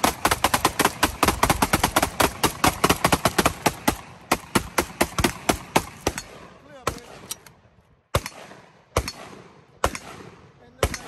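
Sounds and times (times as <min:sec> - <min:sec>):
rapid semi-automatic gunfire: 0:00.0 - 0:07.5, 0:08.1 - 0:11.0
pistol shots: 0:00.0 - 0:11.0.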